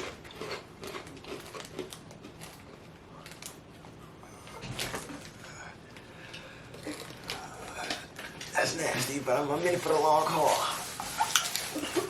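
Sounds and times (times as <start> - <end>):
people crunching crackers: 0.0 - 12.0.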